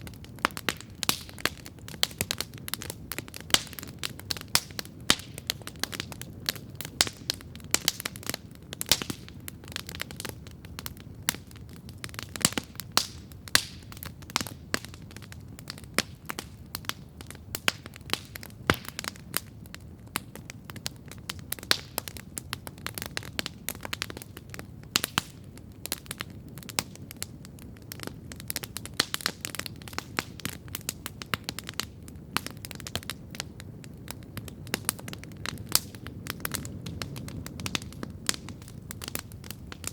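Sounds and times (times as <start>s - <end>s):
campfire crackling: 0.0s - 39.9s
fire pops and snaps: 0.0s - 39.9s.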